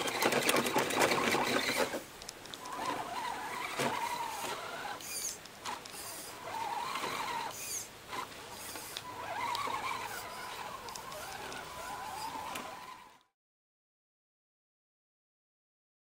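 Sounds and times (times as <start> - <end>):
electric motor and gear whine: 0.0 - 13.3.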